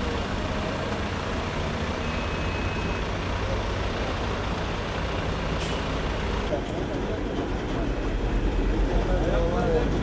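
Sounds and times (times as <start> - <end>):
road and traffic noise: 0.0 - 10.0.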